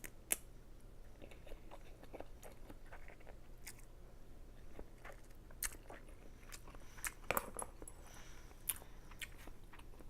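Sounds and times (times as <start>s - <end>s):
person chewing noodles: 1.1s - 3.9s, 4.6s - 10.0s.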